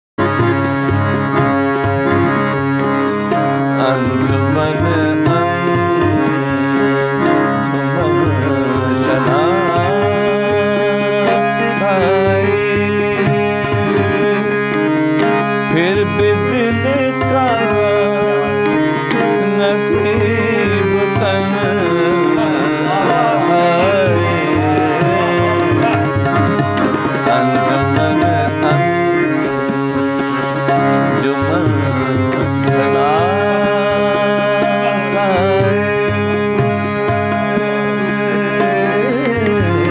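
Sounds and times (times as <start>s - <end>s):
harmonium chords: 0.0s - 39.9s
tabla rhythm: 0.2s - 39.9s
man singing: 2.0s - 39.9s.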